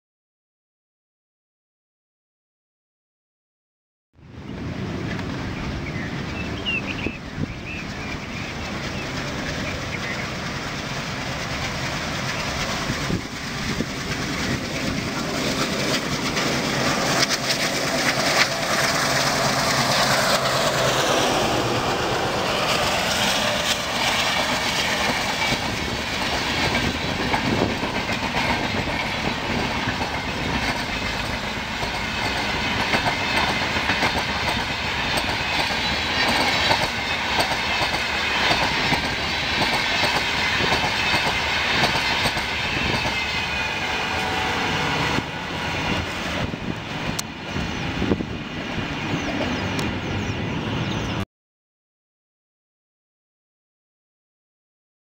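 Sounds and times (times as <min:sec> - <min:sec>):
diesel locomotive passing: 0:04.2 - 0:51.2
train wheels clickety-clack on rails: 0:04.8 - 0:51.2.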